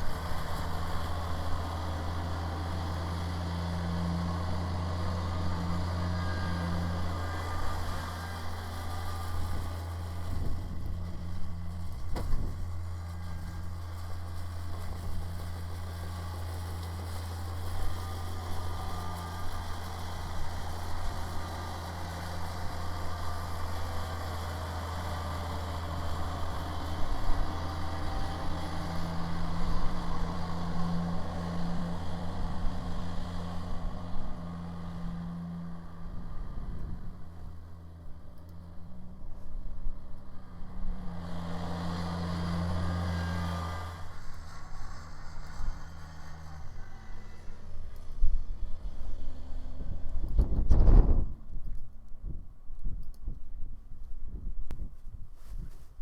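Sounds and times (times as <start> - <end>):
tractor diesel engine droning: 0.0 - 52.0.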